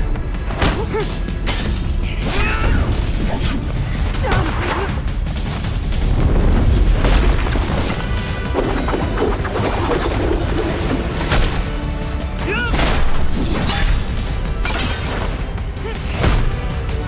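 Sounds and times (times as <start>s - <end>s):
tense film score: 0.0s - 17.0s.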